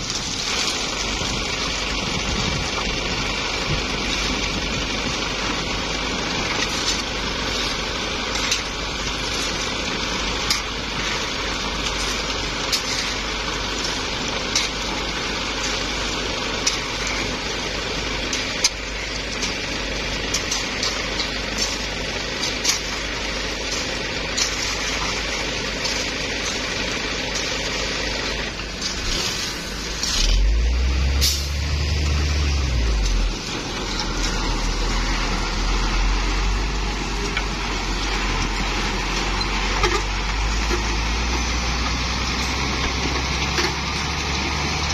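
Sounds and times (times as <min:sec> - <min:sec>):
concrete mixer truck running: 0:00.0 - 0:44.9
wet concrete pouring down chute: 0:00.0 - 0:44.9
diesel engine revving: 0:00.1 - 0:44.9.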